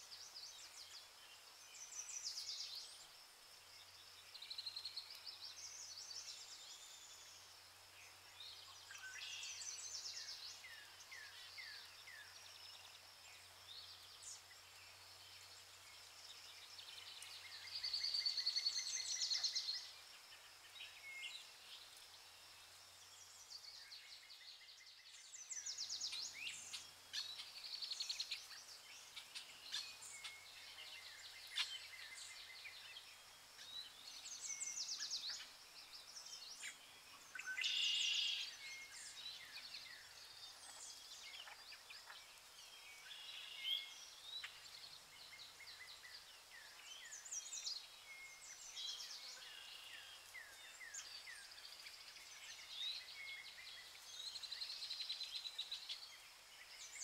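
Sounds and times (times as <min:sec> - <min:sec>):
birds chirping and trilling: 0:04.3 - 0:22.0, 0:22.6 - 0:57.0.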